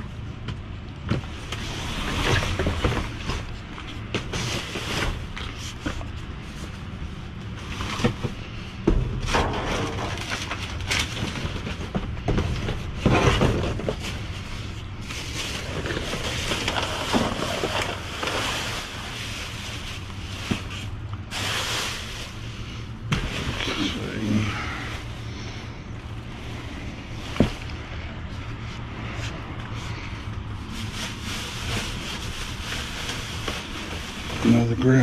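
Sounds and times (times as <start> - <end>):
cardboard and plastic bags rustling: 0.0 - 35.0
steady low hum: 0.0 - 35.0.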